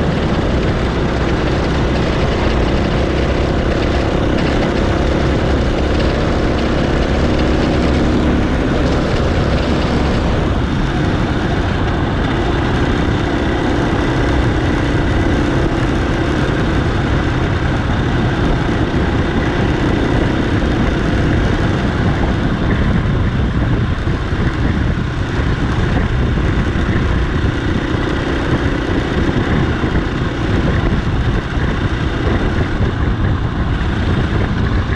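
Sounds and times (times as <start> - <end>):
dirt bike engine running: 0.0 - 34.9
wind noise on microphone: 0.0 - 34.9.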